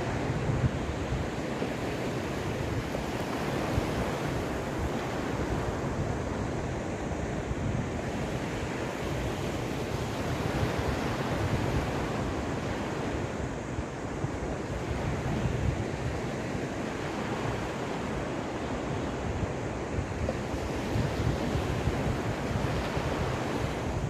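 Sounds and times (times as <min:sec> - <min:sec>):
surf washing onto shore: 0:00.0 - 0:24.0
wind rumble on microphone: 0:00.0 - 0:24.0.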